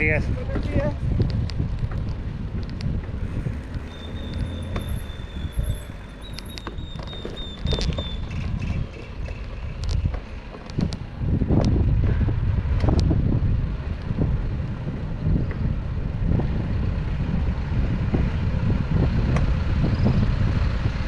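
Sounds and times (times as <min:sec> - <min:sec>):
low rumble: 0:00.0 - 0:21.0
wind buffeting microphone: 0:00.0 - 0:21.0.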